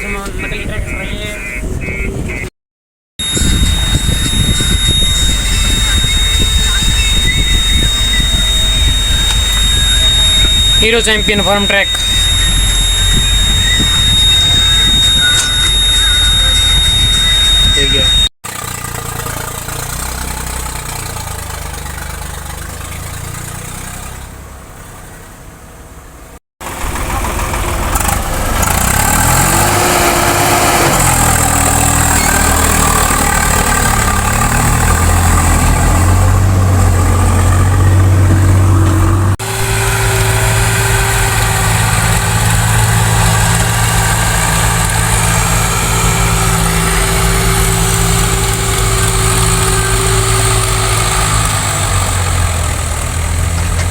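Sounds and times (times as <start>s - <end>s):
engine revving up: 3.2s - 24.4s, 26.6s - 53.9s
tractor diesel engine running: 3.2s - 53.9s.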